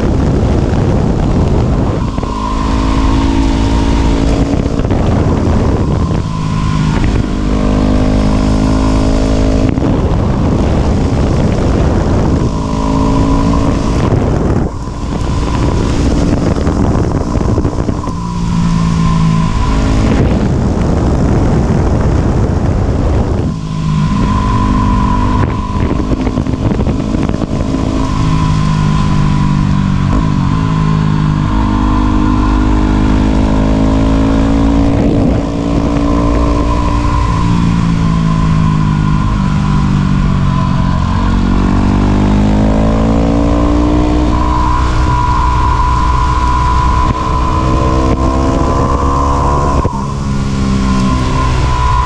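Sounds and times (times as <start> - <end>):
motorcycle engine revving: 0.0 - 52.0
steady high whine: 0.0 - 52.0.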